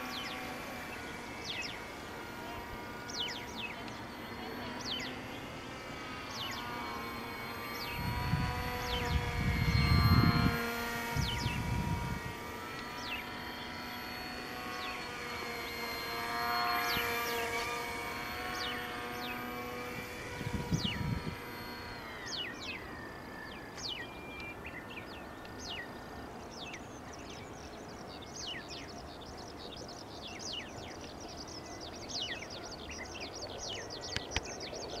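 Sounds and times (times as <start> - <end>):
electric motor and propeller whining: 0.0 - 35.0
small birds chirping: 0.0 - 35.0.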